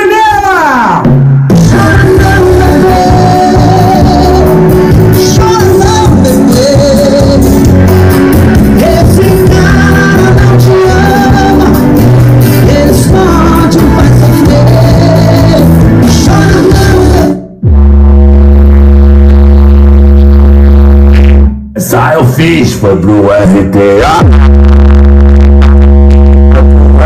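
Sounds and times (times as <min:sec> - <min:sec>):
loud bass-heavy music with vocals: 0:00.0 - 0:27.0.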